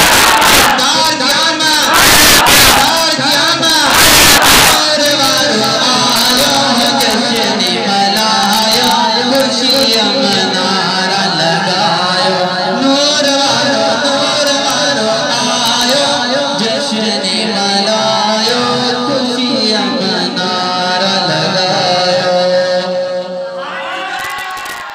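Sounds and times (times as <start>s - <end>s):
man singing devotional song: 0.1s - 23.6s.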